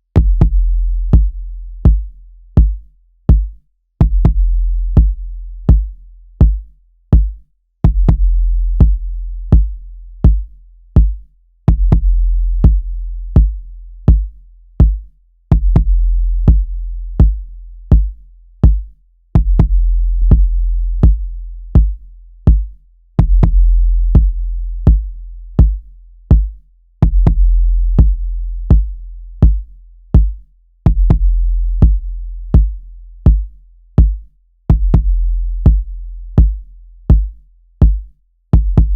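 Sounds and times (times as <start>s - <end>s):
deep sub-bass kick: 0.0s - 38.9s.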